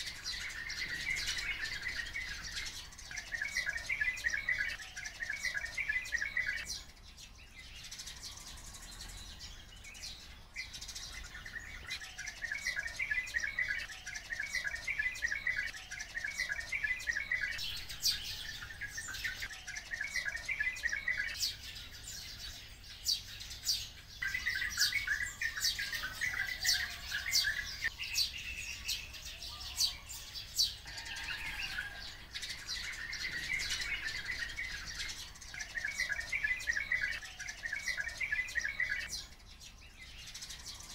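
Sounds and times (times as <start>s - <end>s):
birds twittering chatter: 0.0s - 40.9s.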